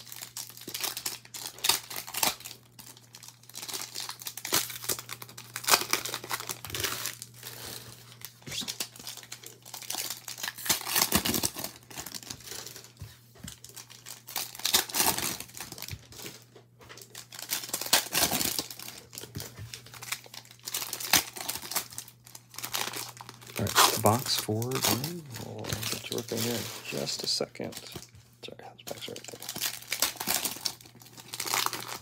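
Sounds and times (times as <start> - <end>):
foil wrappers crinkling: 0.0 - 28.2, 28.9 - 32.0.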